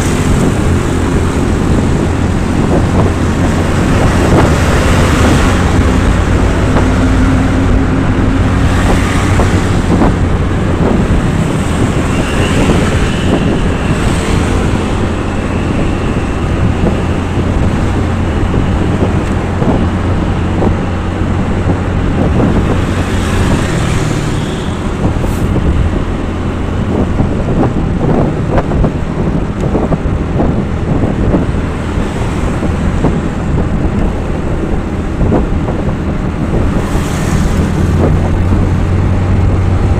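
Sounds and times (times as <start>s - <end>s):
vehicle engine and road noise: 0.0s - 39.9s
wind buffeting microphone: 0.0s - 39.9s.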